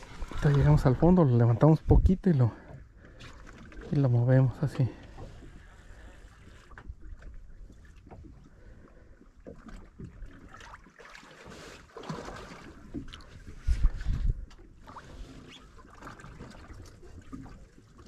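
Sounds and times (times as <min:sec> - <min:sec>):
faint wind: 0:00.0 - 0:10.8, 0:11.4 - 0:18.0
water lapping around boat: 0:00.0 - 0:18.0.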